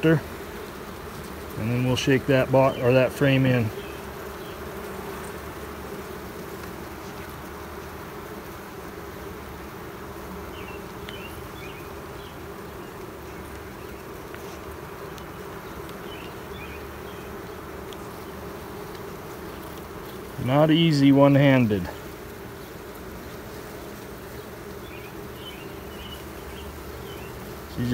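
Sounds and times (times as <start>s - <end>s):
honeybees buzzing: 0.0s - 27.9s.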